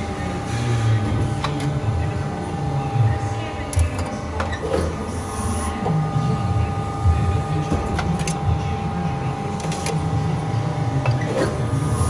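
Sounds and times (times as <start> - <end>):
faint machine whine: 0.0 - 12.0.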